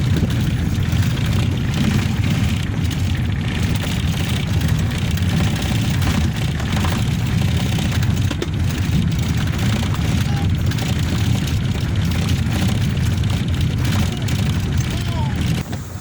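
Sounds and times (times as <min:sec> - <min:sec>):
road noise: 0:00.0 - 0:16.0
vehicle engine low rumble: 0:00.0 - 0:16.0.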